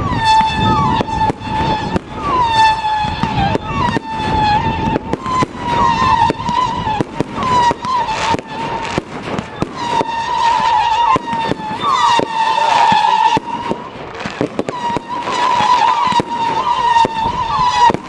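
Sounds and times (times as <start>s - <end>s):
fireworks bangs and crackles: 0.0s - 18.0s
high whistling tone: 0.0s - 18.0s.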